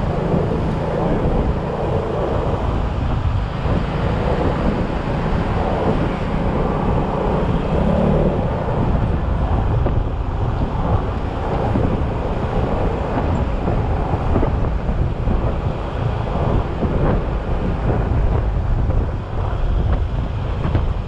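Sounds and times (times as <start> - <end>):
scooter engine running: 0.0 - 21.0
wind and road noise: 0.0 - 21.0.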